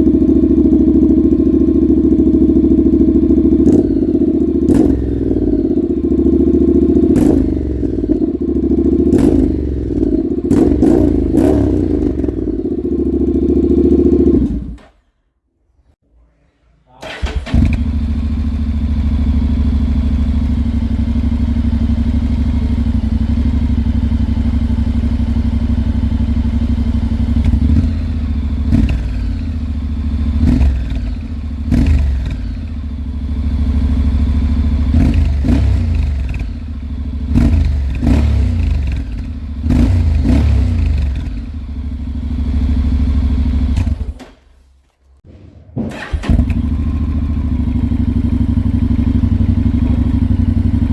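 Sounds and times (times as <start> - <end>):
motorcycle engine revving: 0.0 - 14.9, 17.0 - 44.4, 45.2 - 50.9.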